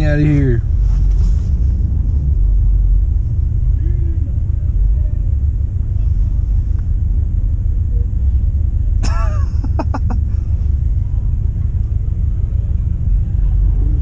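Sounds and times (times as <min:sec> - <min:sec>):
car rumble: 0:00.0 - 0:14.0.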